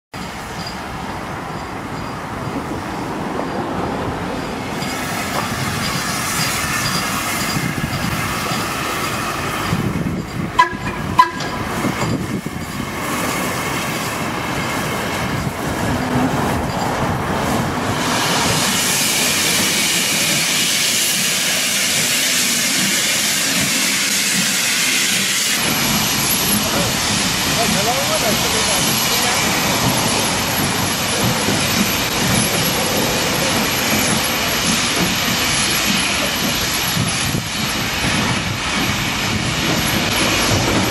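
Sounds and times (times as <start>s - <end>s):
steam locomotive running: 0.2s - 40.9s
locomotive steam hiss: 4.6s - 15.9s, 17.4s - 40.9s.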